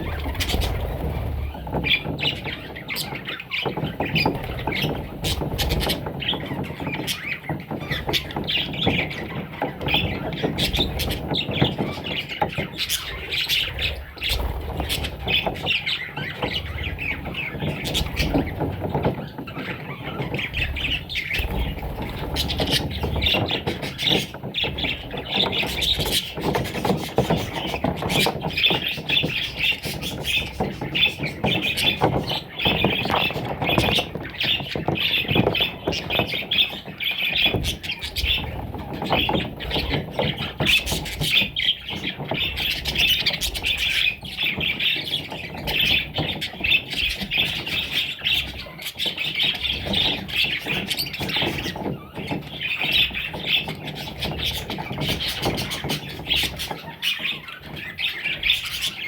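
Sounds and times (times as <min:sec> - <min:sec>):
parrot chicks squawking: 0:00.0 - 0:59.0.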